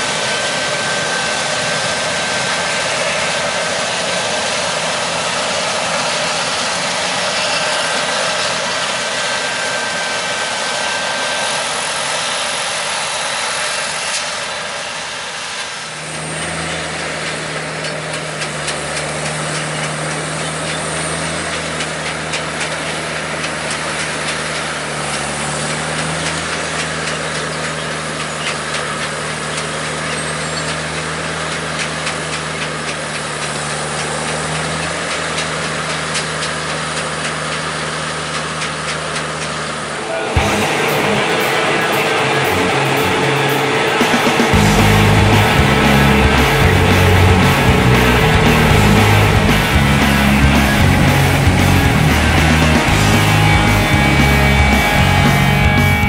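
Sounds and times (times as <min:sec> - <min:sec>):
forage harvester rushing noise: 0:00.0 - 0:56.0
tractor engine humming: 0:00.0 - 0:56.0.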